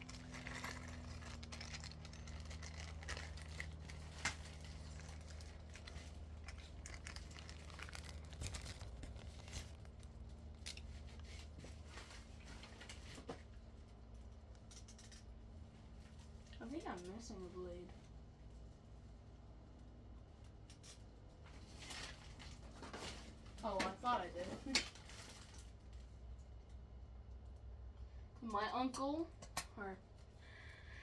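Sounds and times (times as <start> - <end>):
fan parts rustling and clicking: 0.0 - 18.2, 20.4 - 27.7.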